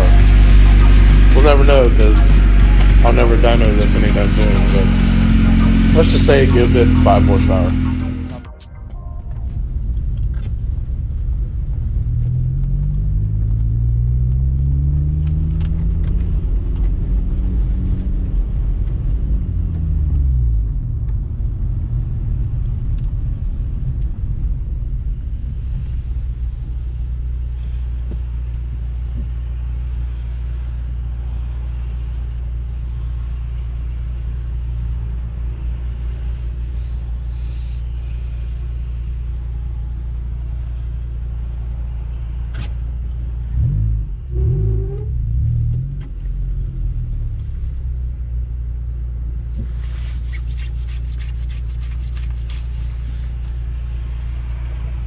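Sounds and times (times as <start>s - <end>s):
car exhaust note: 0.0s - 55.0s.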